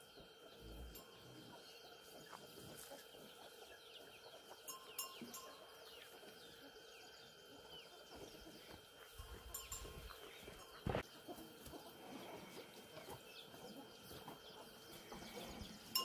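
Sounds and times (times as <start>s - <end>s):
faint steady high tone: 0.1s - 13.8s.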